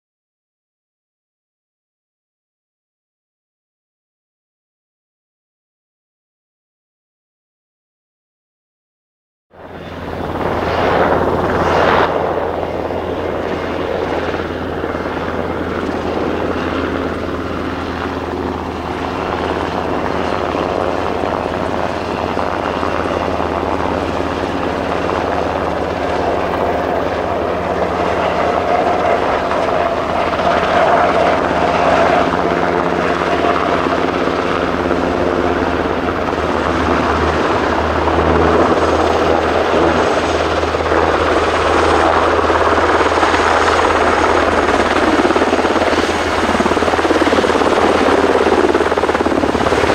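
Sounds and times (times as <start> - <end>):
helicopter rotor beat: 9.5 - 49.9
turbine engine whine: 9.5 - 49.9.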